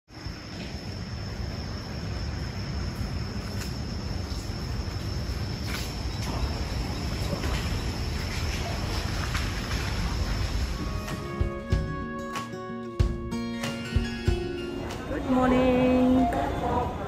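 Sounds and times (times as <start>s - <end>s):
insects droning: 0.1s - 17.0s.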